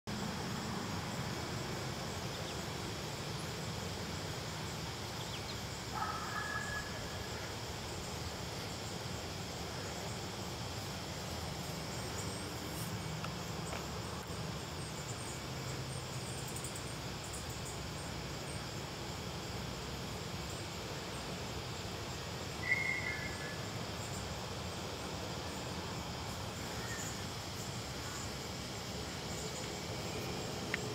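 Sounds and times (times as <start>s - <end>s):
outdoor ambience hiss: 0.0s - 30.9s.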